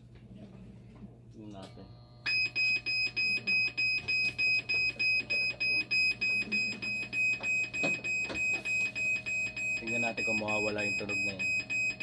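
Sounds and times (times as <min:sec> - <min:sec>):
machine alarm beeping: 0:02.2 - 0:12.0.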